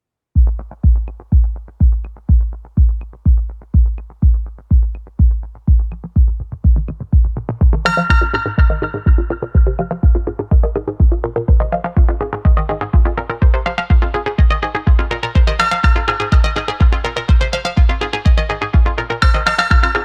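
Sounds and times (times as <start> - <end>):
heavy kick drum beat: 0.4 - 20.0
synthesizer: 0.4 - 20.0.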